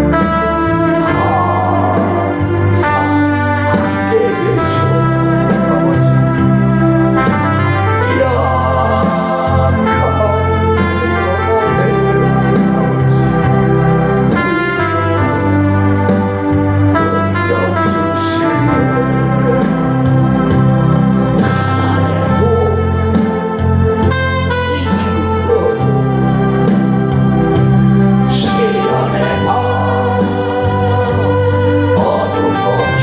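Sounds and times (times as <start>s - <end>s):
bass line: 0.0s - 33.0s
organ-like keyboard chords: 0.0s - 33.0s.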